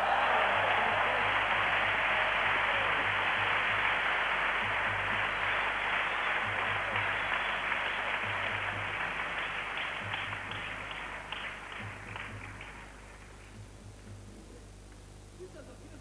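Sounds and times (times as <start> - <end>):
crowd applauding: 0.0 - 13.6.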